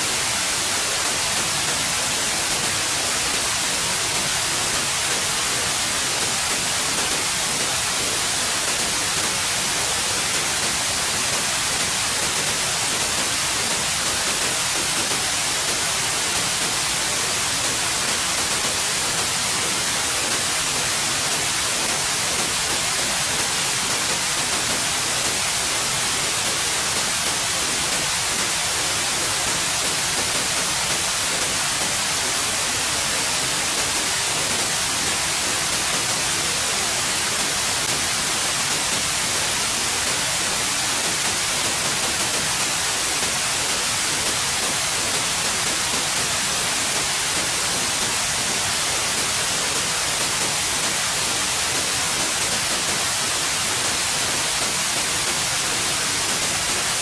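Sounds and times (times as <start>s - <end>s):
electronic white noise hiss: 0.0s - 57.0s.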